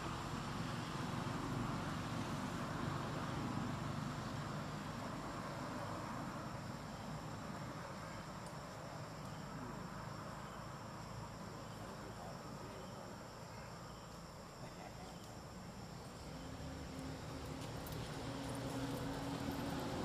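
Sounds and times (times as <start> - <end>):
insects trilling: 4.0 - 20.0.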